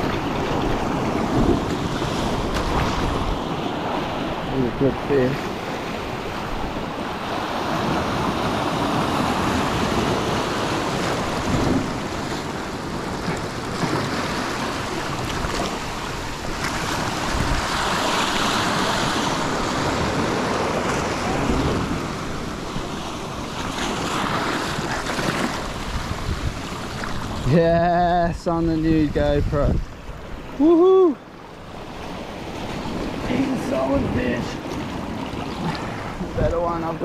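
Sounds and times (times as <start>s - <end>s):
wind buffeting microphone: 0.0s - 31.0s
surf washing over rocks: 0.0s - 37.0s.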